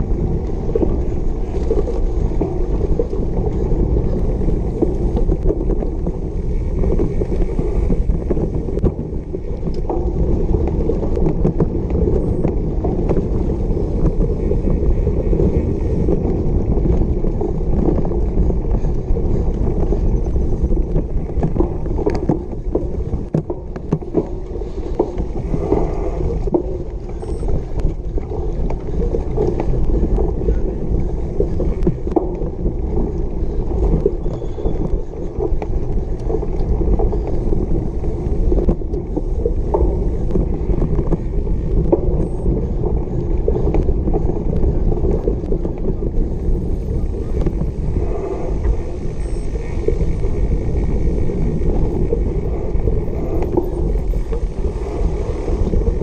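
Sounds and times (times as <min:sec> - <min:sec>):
bike rattling and knocking: 0:00.0 - 0:56.0
wind buffeting microphone: 0:00.0 - 0:56.0.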